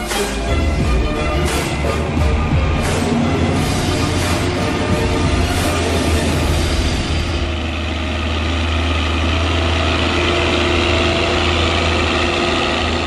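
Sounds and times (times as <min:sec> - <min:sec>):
diesel engine low drone: 0:00.0 - 0:13.0.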